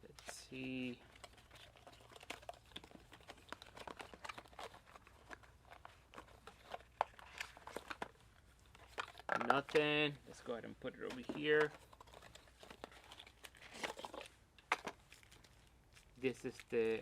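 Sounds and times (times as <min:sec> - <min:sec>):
packaging crinkling: 0:00.9 - 0:09.8, 0:11.1 - 0:17.0.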